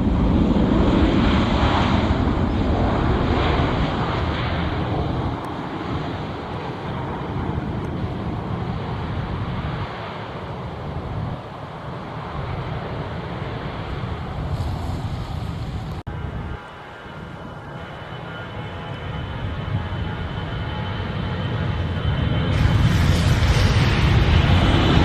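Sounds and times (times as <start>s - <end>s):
jet airliner engine noise: 0.0s - 25.0s
wind buffeting microphone: 0.0s - 25.0s.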